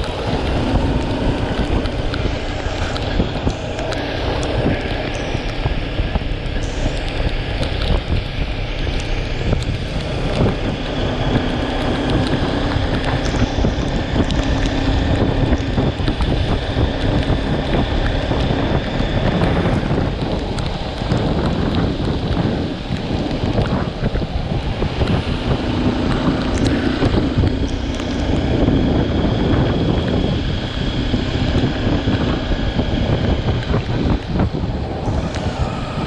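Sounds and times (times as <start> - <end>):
motorcycle engine drone: 0.0 - 36.0
wind buffeting microphone: 0.0 - 36.0.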